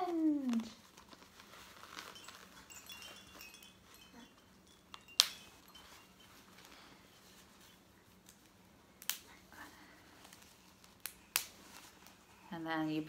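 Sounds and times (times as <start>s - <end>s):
soft fabric handling: 0.0s - 13.0s.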